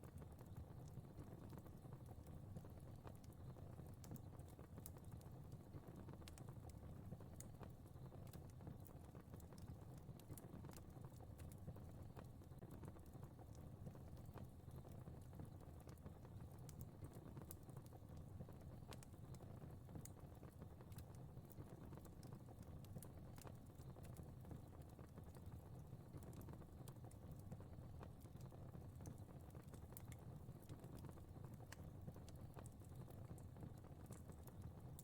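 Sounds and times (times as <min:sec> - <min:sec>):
fire crackling and popping: 0:00.0 - 0:35.0.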